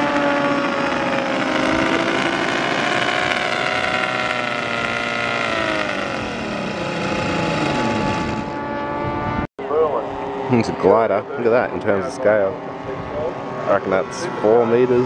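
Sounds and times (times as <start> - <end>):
model aeroplane engine droning: 0.0 - 15.0.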